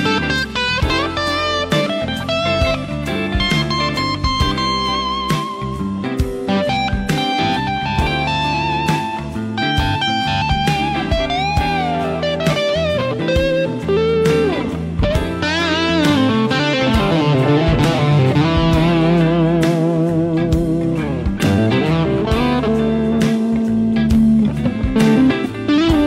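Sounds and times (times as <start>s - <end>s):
electric guitar lead with vibrato: 0.0s - 26.0s.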